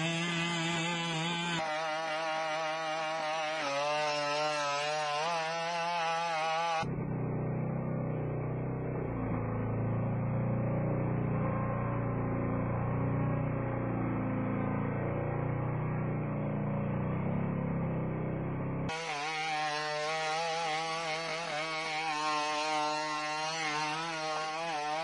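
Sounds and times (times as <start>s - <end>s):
buzzing two-stroke engine: 0.0s - 25.0s.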